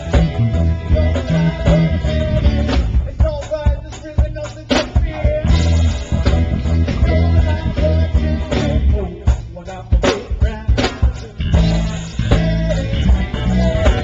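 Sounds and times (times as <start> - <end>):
electric guitar: 0.0 - 3.2, 4.8 - 9.2, 10.1 - 14.0
bass guitar: 0.0 - 14.0
drum kit: 0.0 - 14.0.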